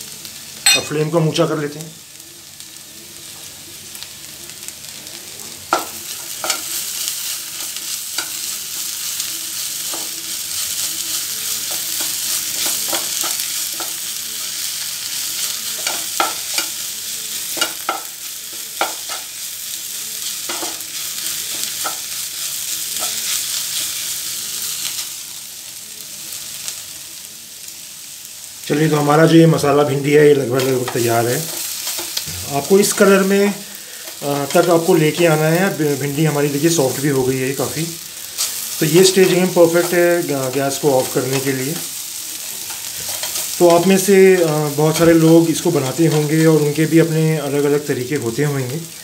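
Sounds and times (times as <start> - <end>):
vegetables sizzling in a frying pan: 0.0 - 49.0.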